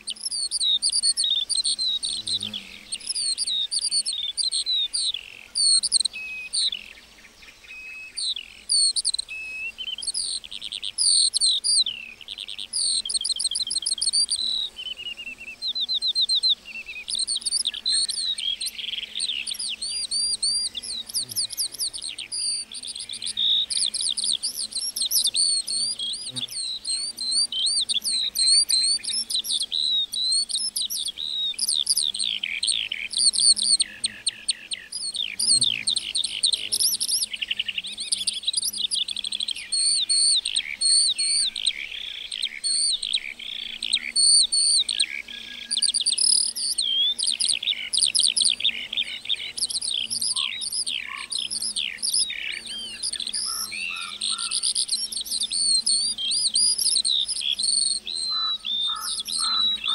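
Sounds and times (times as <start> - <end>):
lark singing: 7.7 - 59.9.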